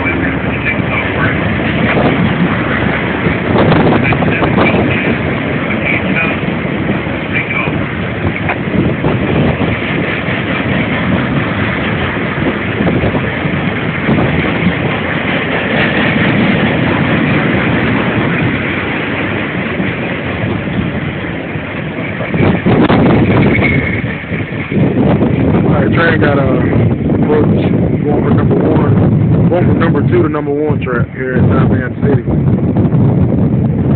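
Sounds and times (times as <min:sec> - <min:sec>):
freight train wheels rumbling on rails: 0:00.0 - 0:33.9.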